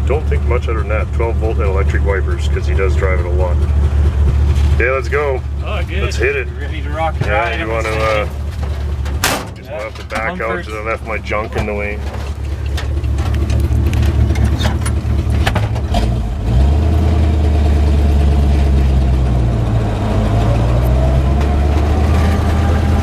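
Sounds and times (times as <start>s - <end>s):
pickup truck engine running: 0.0s - 23.0s.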